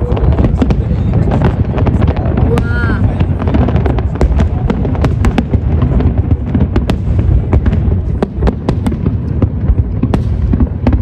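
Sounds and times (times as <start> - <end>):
fireworks cracking and banging: 0.0 - 11.0.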